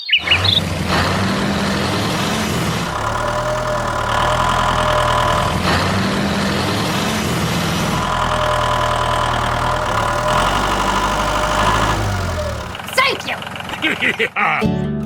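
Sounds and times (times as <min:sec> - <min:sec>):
vehicle engine idling: 0:00.1 - 0:14.6.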